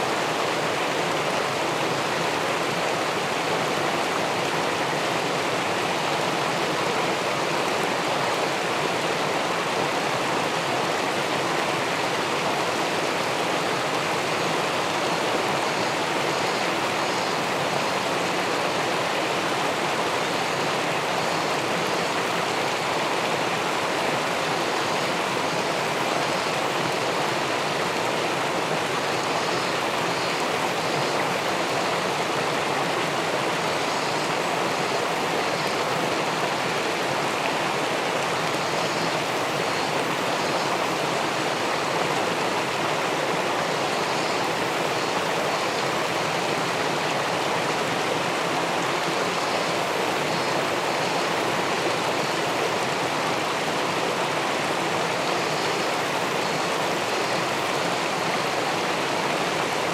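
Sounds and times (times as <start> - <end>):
river water pouring over a weir: 0.0 - 59.9.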